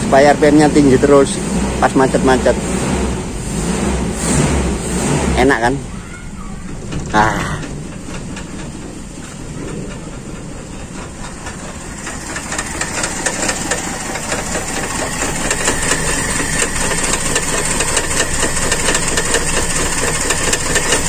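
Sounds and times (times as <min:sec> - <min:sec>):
car engine idling roughly: 0:00.0 - 0:05.9, 0:06.6 - 0:21.0
fast engine ticking: 0:00.0 - 0:05.9, 0:06.6 - 0:21.0.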